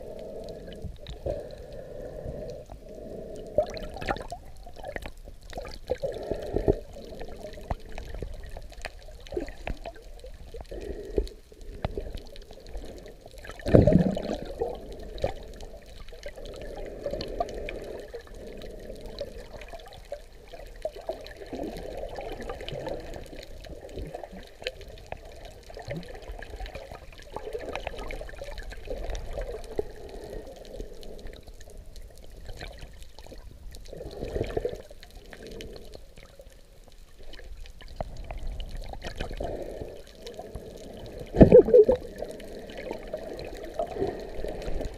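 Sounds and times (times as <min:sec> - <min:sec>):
underwater sloshing and bubbling: 0:00.0 - 0:44.9.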